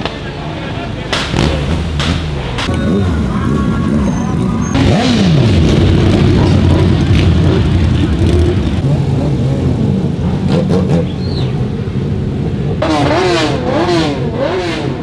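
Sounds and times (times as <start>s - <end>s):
crowd chatter: 0.0s - 15.0s
motorcycle engines revving: 0.0s - 15.0s.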